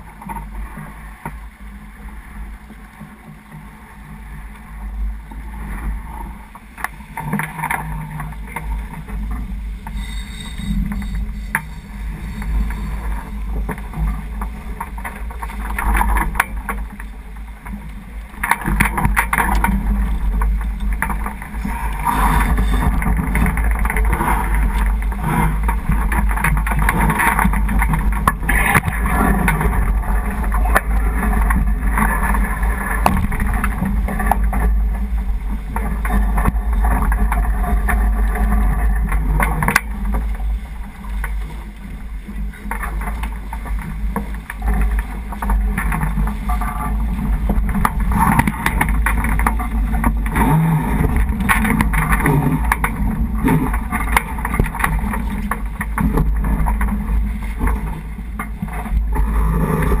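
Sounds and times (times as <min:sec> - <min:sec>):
water rushing along hull: 0:00.0 - 1:00.0
wind rumble on microphone: 0:00.0 - 1:00.0.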